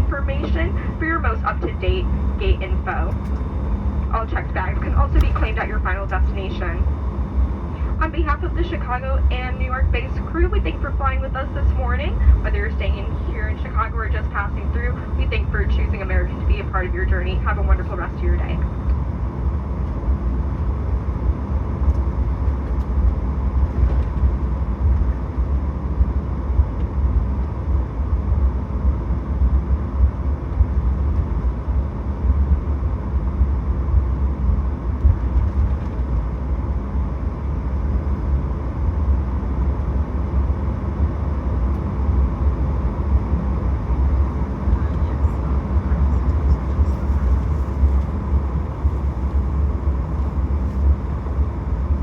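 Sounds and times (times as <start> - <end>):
aircraft engines idling rumble: 0.0 - 52.0
faint steady hum: 0.0 - 52.0.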